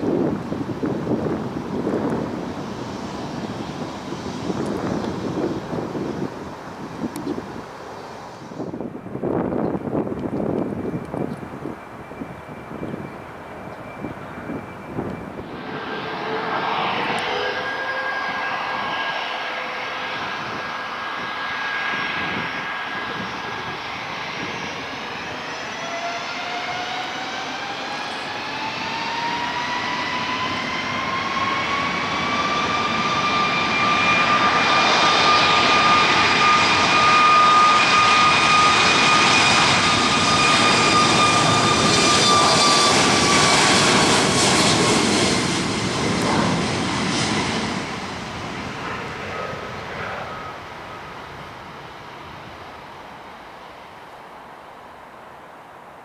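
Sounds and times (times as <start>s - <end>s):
jet engines whining and roaring: 0.0s - 56.0s.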